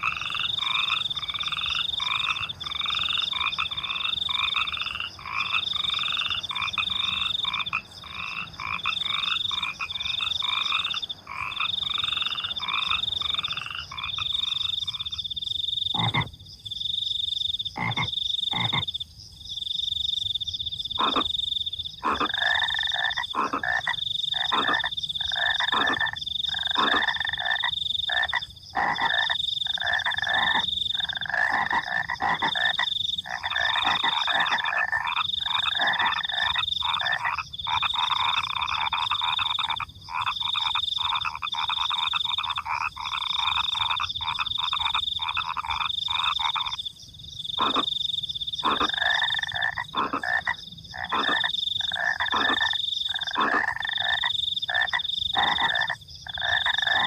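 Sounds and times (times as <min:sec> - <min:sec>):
crickets trilling: 0:00.0 - 0:57.0
frogs croaking: 0:00.0 - 0:57.0.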